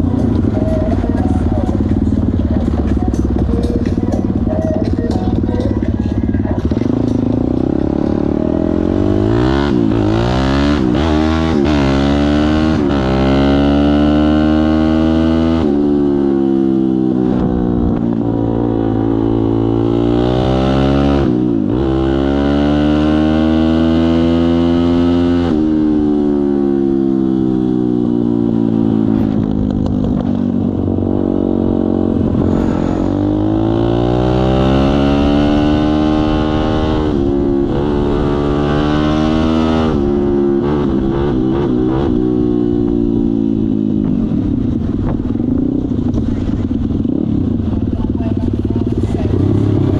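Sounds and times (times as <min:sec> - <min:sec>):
pit bike engine revving: 0:00.0 - 0:49.9.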